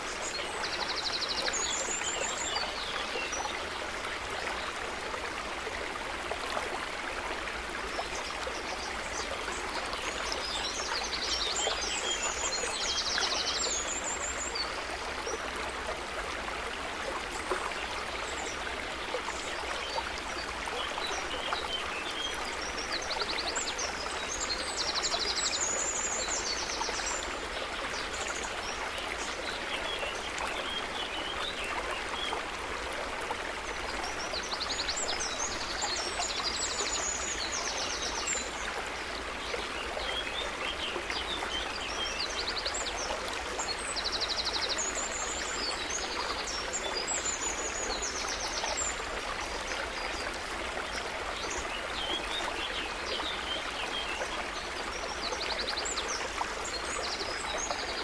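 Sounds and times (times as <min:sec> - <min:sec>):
stream of water running: 0:00.0 - 0:58.0.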